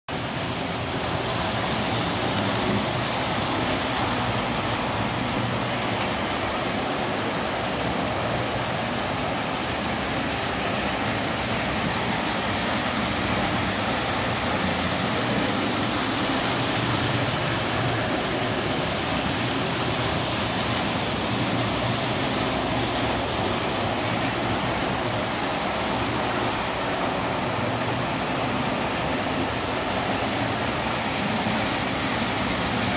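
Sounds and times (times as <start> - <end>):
model trains whirring on track: 0.1 - 32.9.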